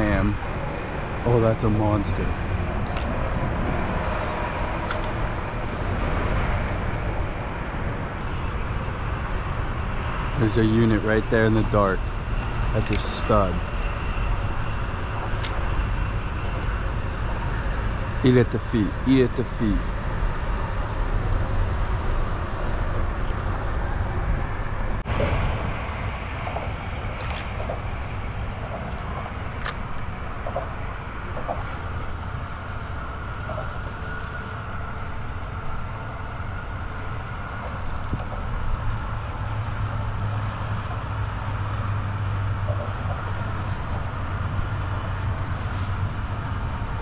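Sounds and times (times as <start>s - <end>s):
low rumble with hiss: 0.0s - 47.0s.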